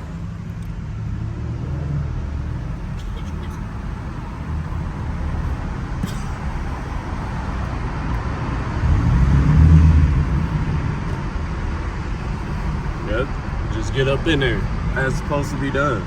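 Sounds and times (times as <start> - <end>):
car engine: 0.0 - 16.0
road rumble: 0.0 - 16.0.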